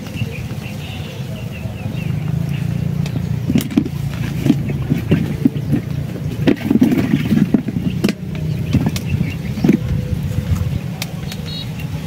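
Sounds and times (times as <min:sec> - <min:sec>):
rustles: 0:00.0 - 0:12.0.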